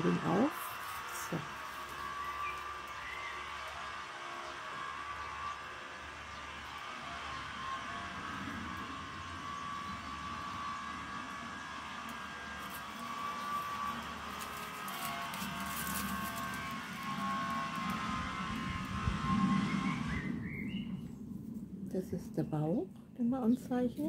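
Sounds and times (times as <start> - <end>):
heavy machinery droning: 0.0 - 23.3.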